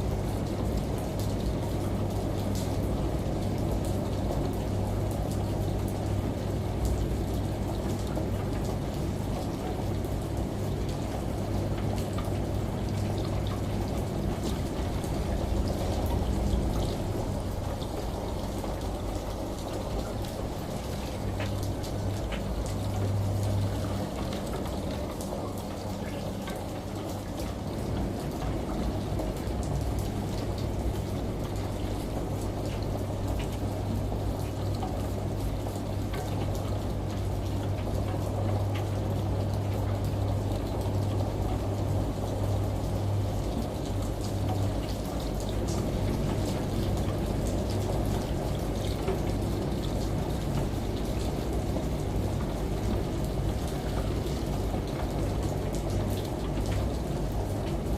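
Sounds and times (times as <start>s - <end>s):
rain: 0.0s - 57.9s
washing machine running: 0.0s - 57.9s.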